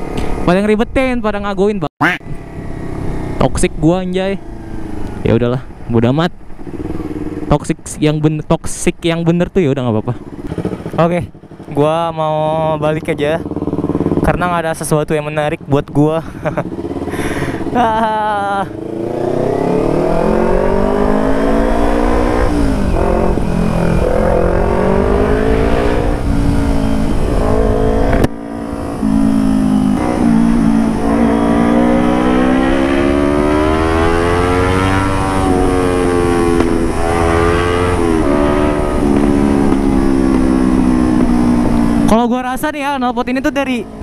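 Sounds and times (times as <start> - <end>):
motorcycle engine revving: 2.0 - 8.0, 9.9 - 44.0.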